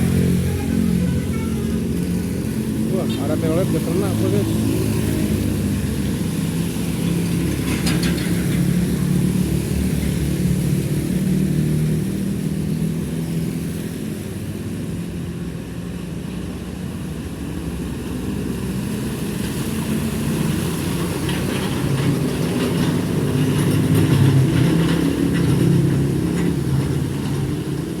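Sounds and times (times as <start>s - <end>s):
heavy trucks and buses passing: 0.0s - 28.0s.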